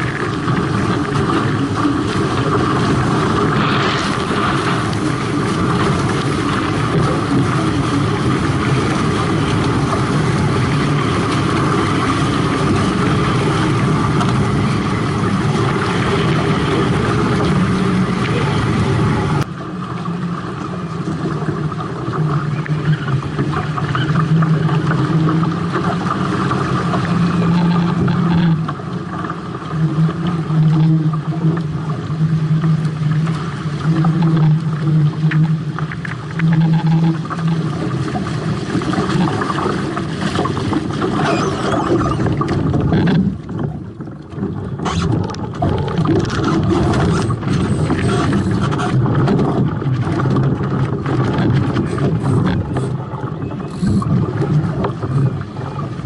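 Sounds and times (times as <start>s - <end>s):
wind buffeting microphone: 0.0s - 19.6s, 20.5s - 56.0s
pulsing low hum: 0.0s - 56.0s
water rushing along hulls: 0.0s - 56.0s.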